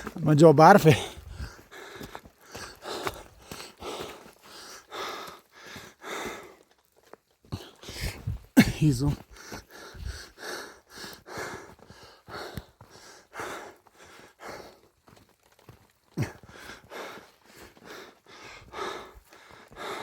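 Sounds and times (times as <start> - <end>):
person breathing heavily: 0.8 - 6.6, 7.5 - 14.9, 16.2 - 20.0.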